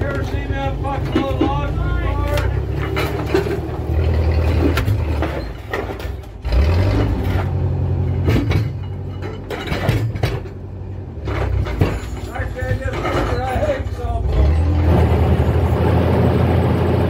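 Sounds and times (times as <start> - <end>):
carriage rattling and knocking: 0.0 - 14.7.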